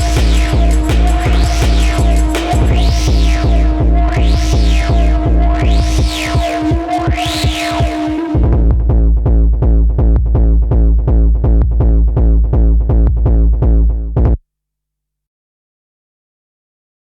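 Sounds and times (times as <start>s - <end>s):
drum machine kick pounding: 0.0s - 14.4s.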